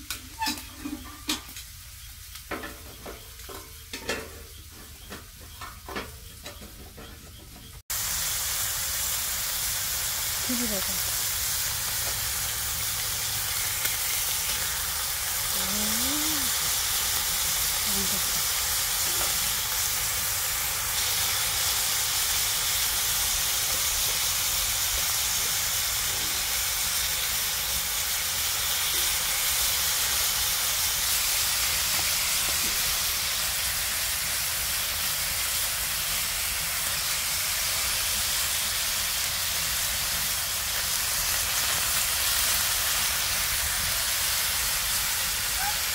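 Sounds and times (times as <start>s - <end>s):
meat sizzling in a skillet: 0.0s - 6.7s, 7.9s - 45.9s.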